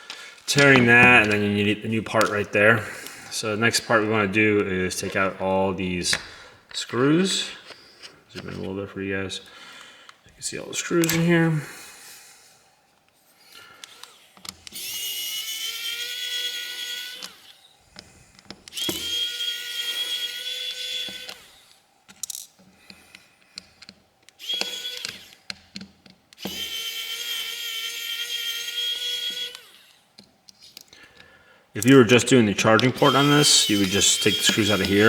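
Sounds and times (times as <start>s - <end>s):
electric screwdriver whining: 0.0s - 8.7s, 10.8s - 12.2s, 13.4s - 35.0s.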